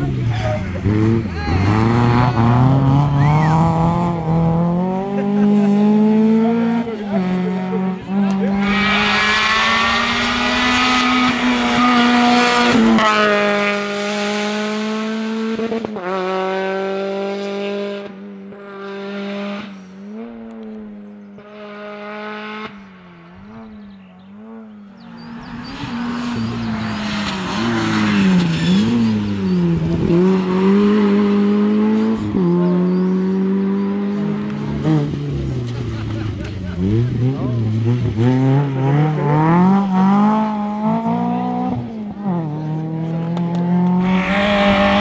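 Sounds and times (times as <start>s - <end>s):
rally car engines revving: 0.0s - 45.0s.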